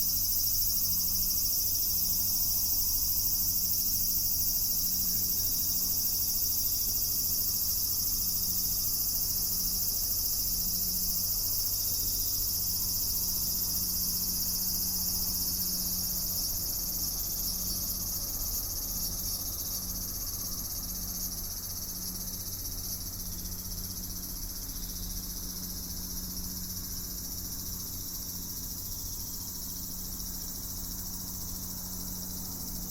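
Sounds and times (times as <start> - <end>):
cicadas shrilling: 0.0 - 32.9.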